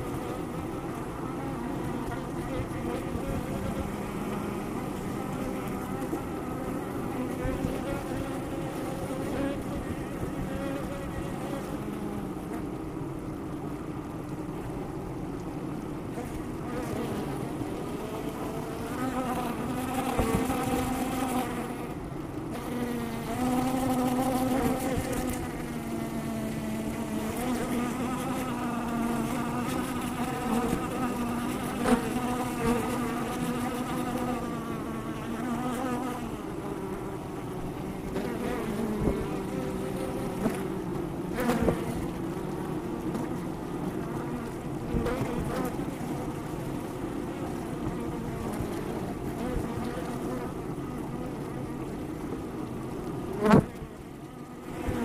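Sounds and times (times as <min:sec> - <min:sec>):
honey bees buzzing: 0:00.0 - 0:15.0, 0:15.9 - 0:55.0.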